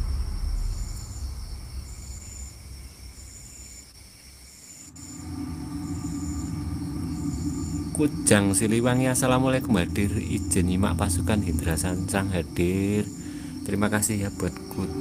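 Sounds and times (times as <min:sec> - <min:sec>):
low rumble: 0:00.0 - 0:03.6, 0:04.9 - 0:15.0
high insect trill: 0:00.0 - 0:15.0
insect buzzing chirp: 0:00.0 - 0:15.0.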